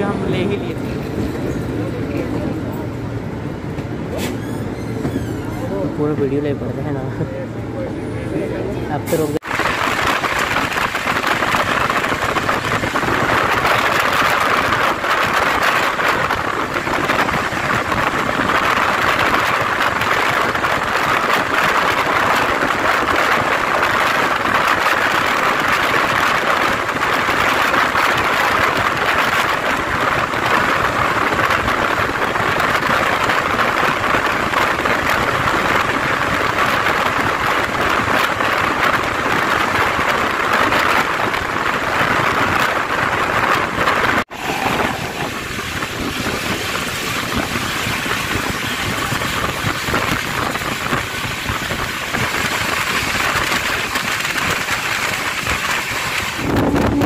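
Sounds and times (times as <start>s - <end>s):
train wheels on rails: 0.0s - 57.0s
rushing air: 8.9s - 57.0s.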